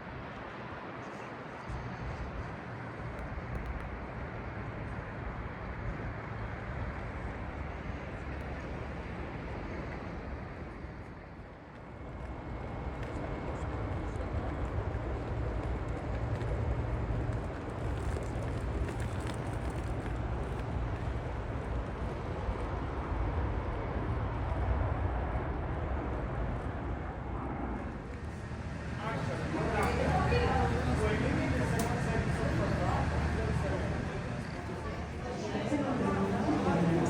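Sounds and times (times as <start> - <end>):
moving vehicle rumble: 0.0 - 37.0.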